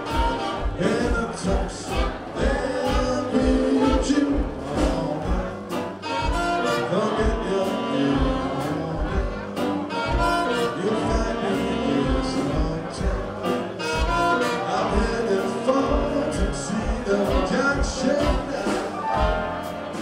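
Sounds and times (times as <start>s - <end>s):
man singing: 0.0s - 19.4s
swing jazz band playing: 0.0s - 20.0s.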